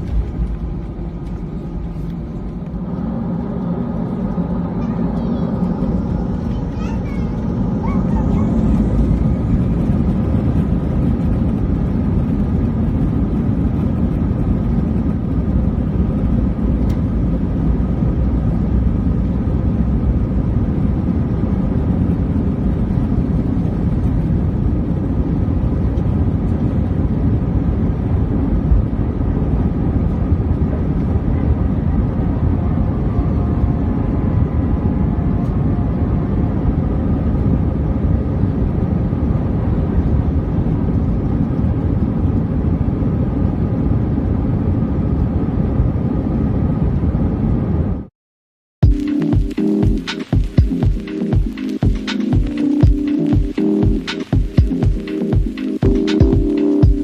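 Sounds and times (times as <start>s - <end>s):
jet engine cabin rumble: 0.0s - 48.1s.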